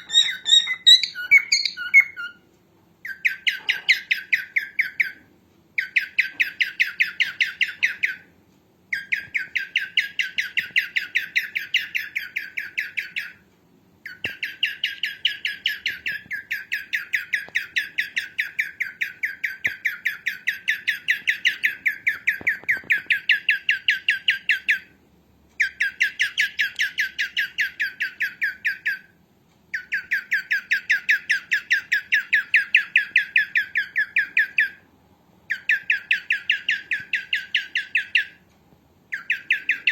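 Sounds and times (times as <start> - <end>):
cockatiel chirping: 0.0 - 2.4, 3.0 - 8.3, 8.9 - 13.4, 14.0 - 25.0, 25.6 - 34.8, 35.5 - 38.4, 39.1 - 39.9.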